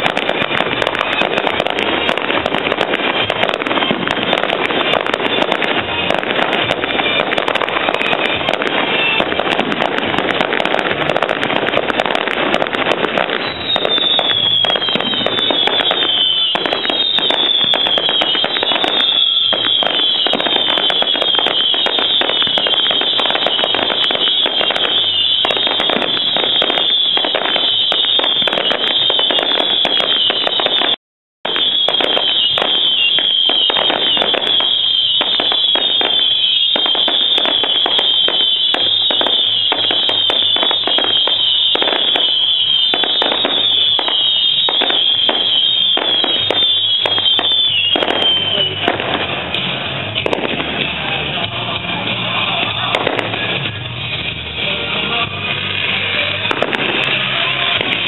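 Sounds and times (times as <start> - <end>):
high falling firework whistles: 0.0 - 51.5
fireworks crackling and popping: 0.0 - 58.0.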